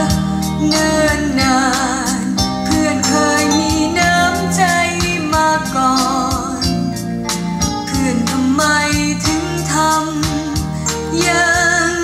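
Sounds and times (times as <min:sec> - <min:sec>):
song from record over loudspeakers: 0:00.0 - 0:12.0.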